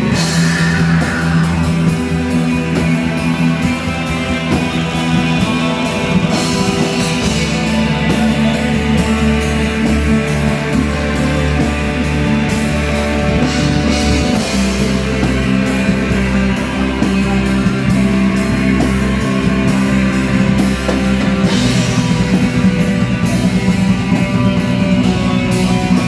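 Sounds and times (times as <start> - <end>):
heavy metal band playing: 0.0 - 26.0.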